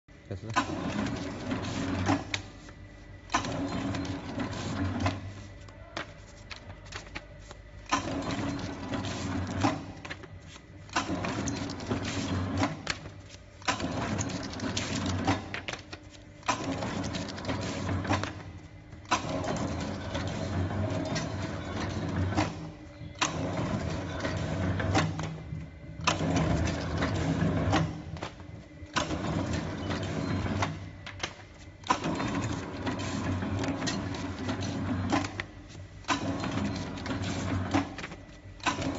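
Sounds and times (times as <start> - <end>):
book sewing machine clattering: 0.2 - 38.9.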